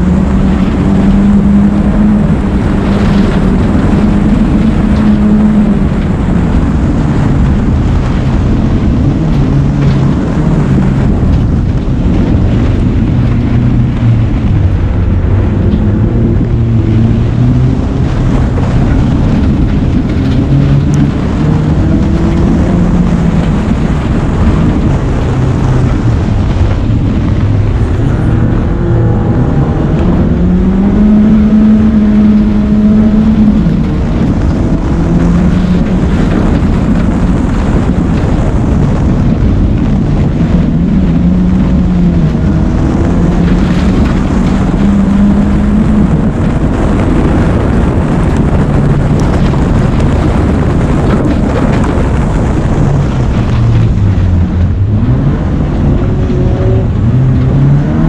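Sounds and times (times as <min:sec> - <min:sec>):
race car engine revving: 0:00.0 - 0:58.0
tyre and road noise: 0:00.0 - 0:58.0.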